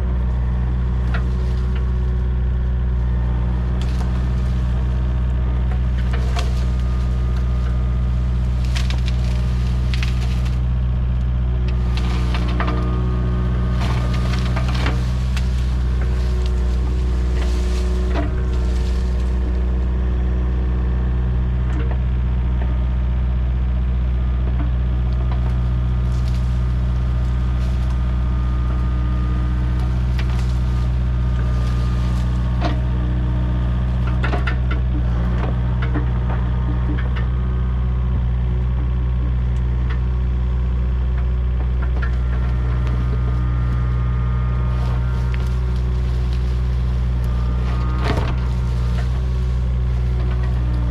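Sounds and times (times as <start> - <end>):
wood and branches cracking: 0.0 - 20.5, 24.3 - 37.4, 38.7 - 50.9
excavator diesel engine running: 0.0 - 50.9.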